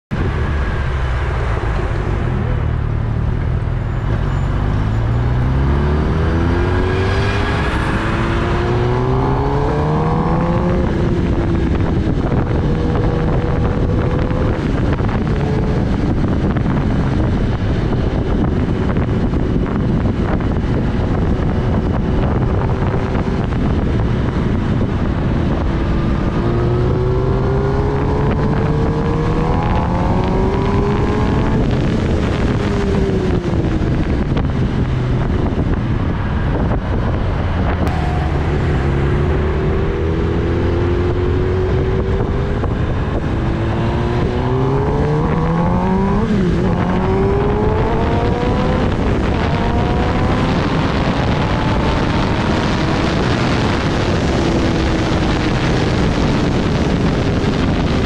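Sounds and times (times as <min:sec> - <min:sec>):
wind on microphone: 0:00.1 - 0:58.0
motorcycle engine accelerating: 0:00.2 - 0:58.0.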